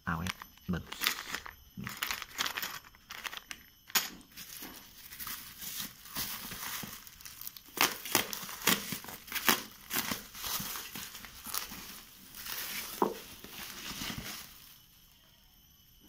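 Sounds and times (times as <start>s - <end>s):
bubble wrap crackles: 0.2s - 15.1s
bubble wrap crinkling and rustling: 0.2s - 15.1s.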